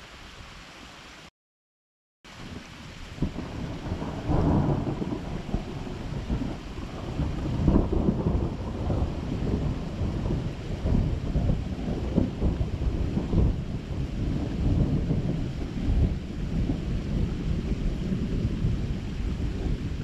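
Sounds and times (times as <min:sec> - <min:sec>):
thunder rumbling: 0:02.3 - 0:20.0.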